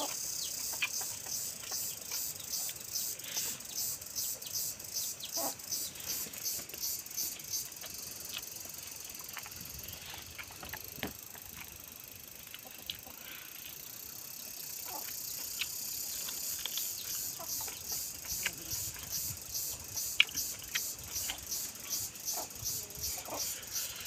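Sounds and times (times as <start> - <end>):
rhythmic chewing: 0.0 - 24.0.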